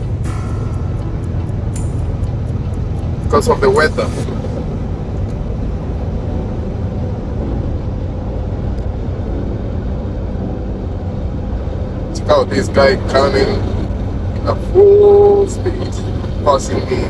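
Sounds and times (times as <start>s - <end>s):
truck engine and tyre drone: 0.0s - 17.0s.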